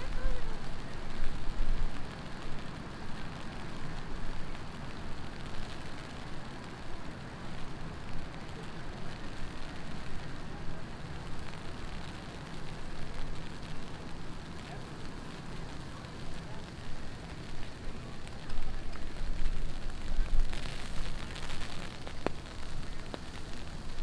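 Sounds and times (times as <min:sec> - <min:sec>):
city traffic rumble: 0:00.0 - 0:24.0
heavy rain falling: 0:00.0 - 0:24.0.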